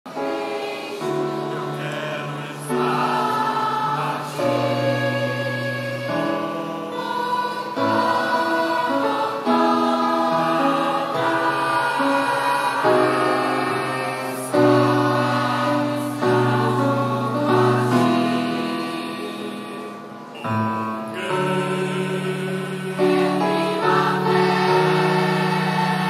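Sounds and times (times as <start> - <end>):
women's choir singing: 0.1 - 26.0.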